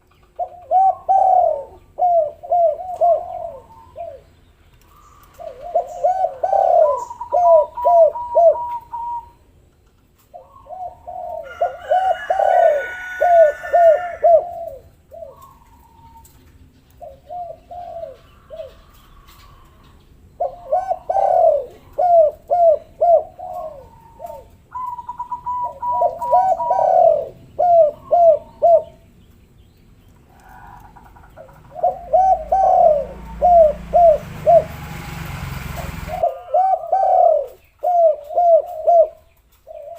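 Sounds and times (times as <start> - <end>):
doves cooing: 0.0 - 9.5, 10.2 - 29.1, 30.1 - 39.9.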